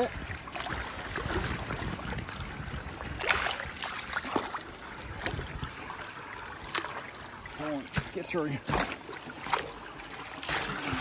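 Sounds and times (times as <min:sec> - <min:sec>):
water splashes: 0:00.0 - 0:11.0
water trickling through a drain: 0:00.0 - 0:11.0.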